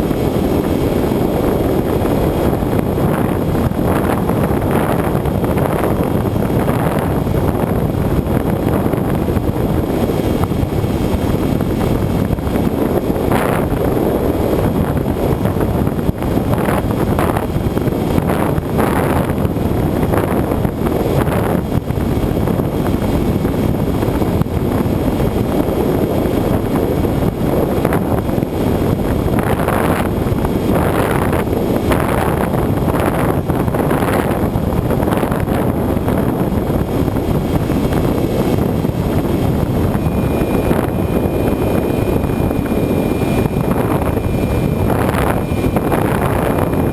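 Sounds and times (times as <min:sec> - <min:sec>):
wind rush on microphone: 0:00.0 - 0:46.9.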